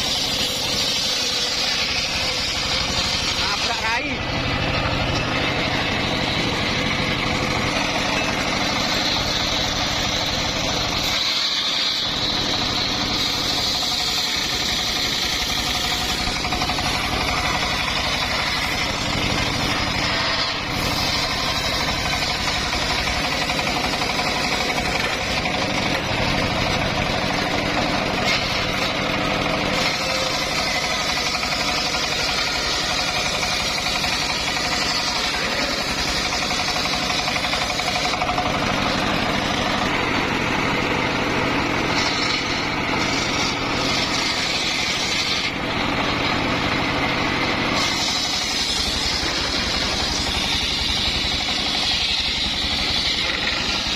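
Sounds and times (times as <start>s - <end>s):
circular saw noise: 0.0s - 53.9s
engine running: 0.0s - 53.9s.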